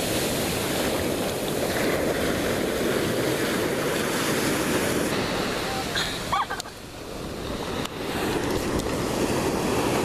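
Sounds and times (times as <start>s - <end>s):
surf washing over sand: 0.0s - 10.0s.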